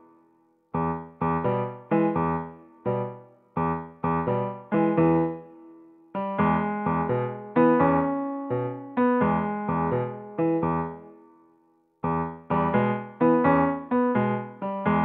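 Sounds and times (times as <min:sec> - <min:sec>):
keyboard chords: 0:00.0 - 0:11.4, 0:12.0 - 0:15.0.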